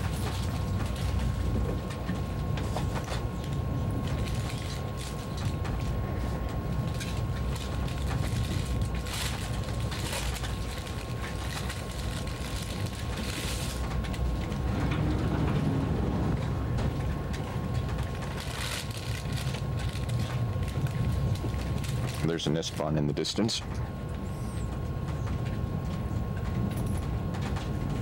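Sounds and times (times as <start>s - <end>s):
train running rumble: 0.0s - 28.0s.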